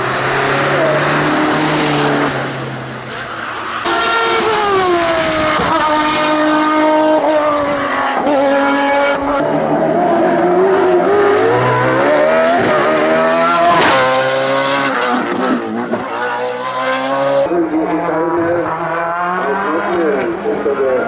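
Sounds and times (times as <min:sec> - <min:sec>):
race car engine at full throttle: 0:00.0 - 0:21.0.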